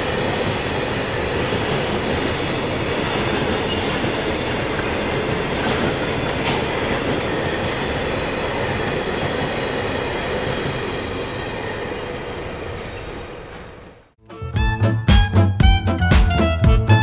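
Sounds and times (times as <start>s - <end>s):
freight train rolling on rails: 0.0s - 14.2s.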